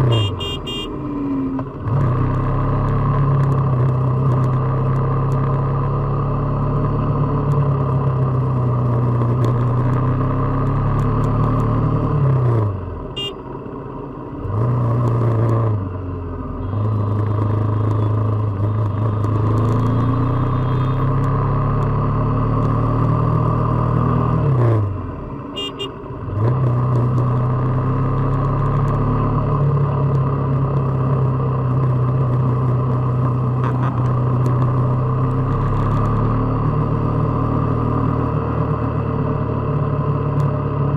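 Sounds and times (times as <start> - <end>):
motorcycle engine and exhaust droning: 0.0 - 40.9.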